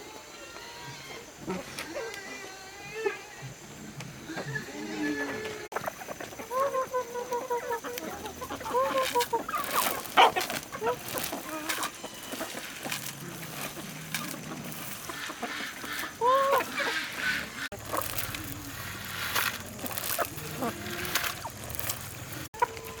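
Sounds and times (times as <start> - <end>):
chickens clucking: 0.1 - 23.0.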